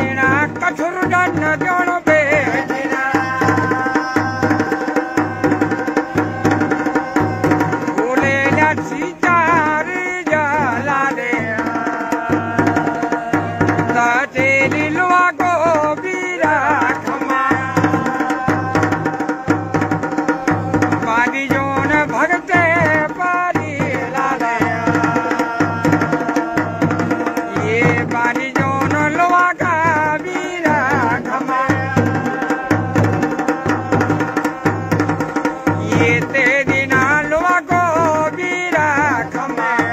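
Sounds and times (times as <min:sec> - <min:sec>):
folk drums playing a driving rhythm: 0:00.0 - 0:39.9.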